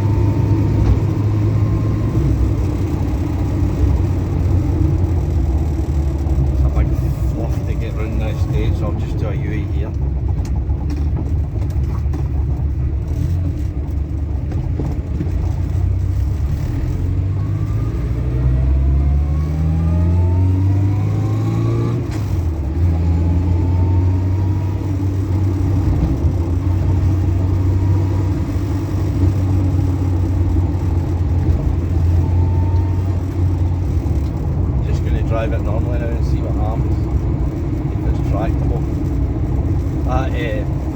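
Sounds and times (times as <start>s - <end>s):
motorbike engine accelerating: 0.0s - 40.9s.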